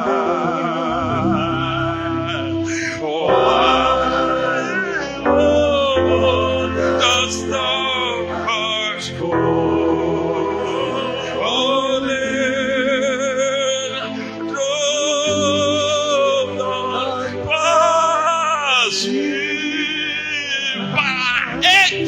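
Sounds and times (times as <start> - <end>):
person singing worship music: 0.0 - 22.0
sustained accompaniment chords: 0.0 - 22.0.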